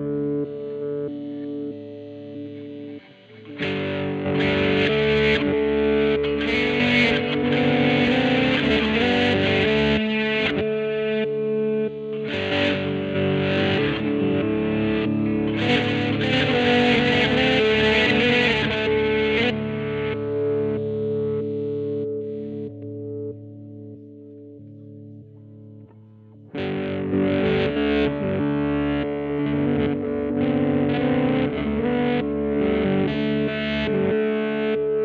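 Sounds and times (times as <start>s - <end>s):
distorted electric guitar: 0.0s - 35.0s.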